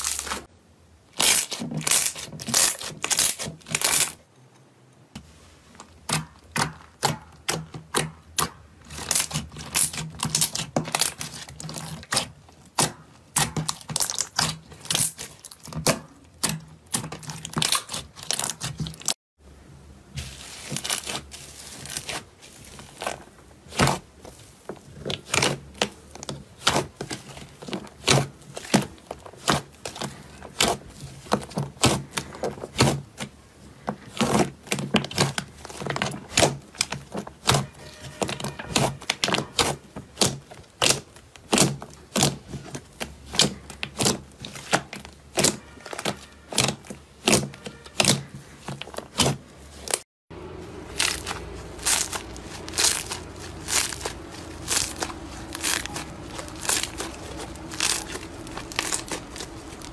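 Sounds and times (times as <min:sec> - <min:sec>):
slime crackling and popping: 0:00.0 - 0:00.5, 0:01.1 - 0:04.2, 0:05.8 - 0:19.2, 0:20.4 - 0:33.4, 0:34.0 - 0:50.0, 0:50.8 - 0:59.9.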